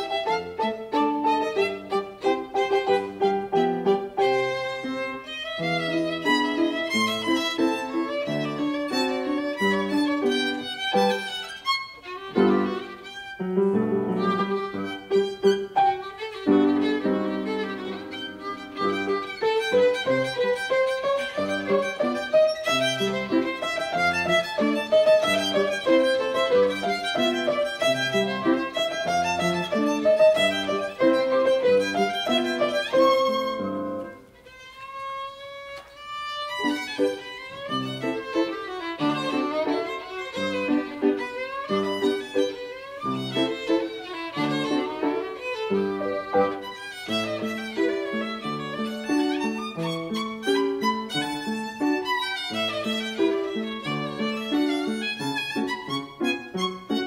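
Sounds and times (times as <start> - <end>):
grand piano: 0.0 - 57.0
violin: 0.0 - 57.0.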